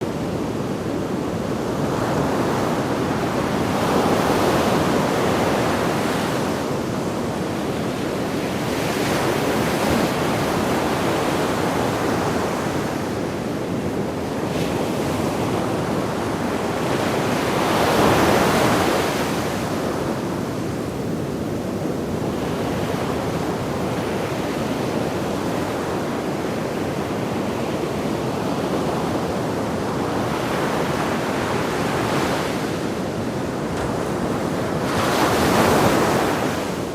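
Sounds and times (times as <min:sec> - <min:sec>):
sea waves breaking on a beach: 0:00.0 - 0:36.9.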